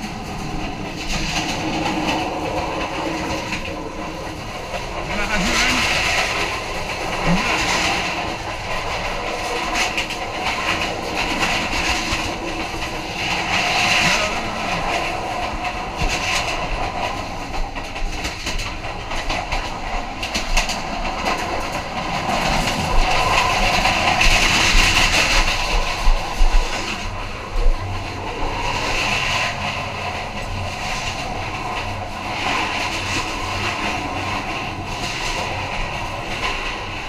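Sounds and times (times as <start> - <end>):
train coaches rattling rumble: 0.0 - 37.0
wheels clacking over rail joints: 0.0 - 37.0.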